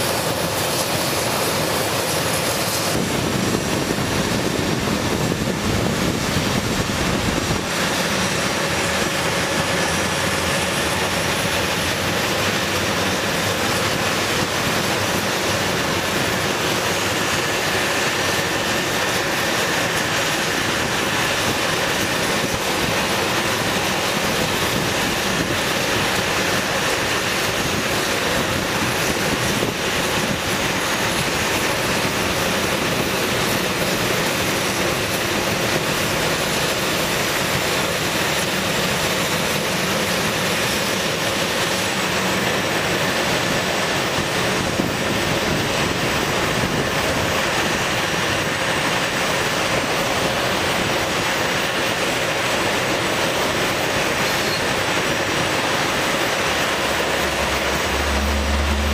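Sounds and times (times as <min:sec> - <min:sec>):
jet engines taxiing: 0:00.0 - 0:58.9.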